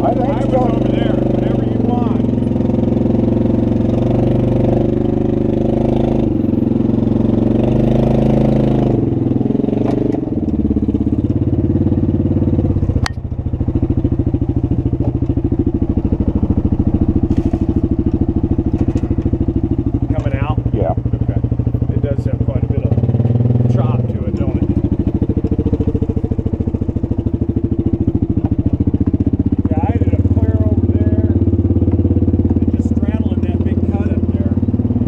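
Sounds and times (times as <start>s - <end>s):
vehicle engine revving and idling: 0.0s - 35.0s.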